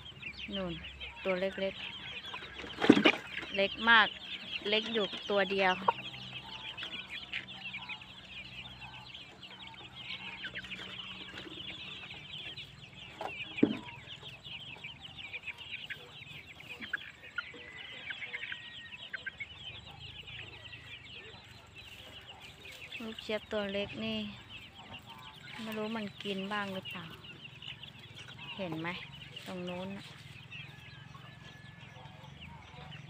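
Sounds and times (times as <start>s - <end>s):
chicks peeping: 0.0s - 33.0s
hen clucking: 0.0s - 33.0s.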